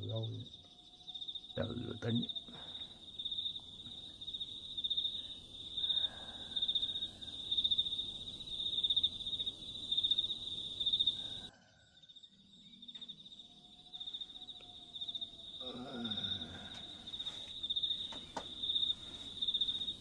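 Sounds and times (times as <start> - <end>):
crickets chirping: 0.0 - 20.0
low outdoor hiss: 0.0 - 20.0.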